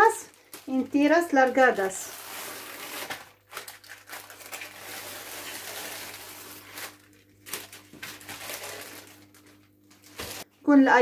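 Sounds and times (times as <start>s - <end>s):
paper and plastic rustling: 0.0s - 10.5s.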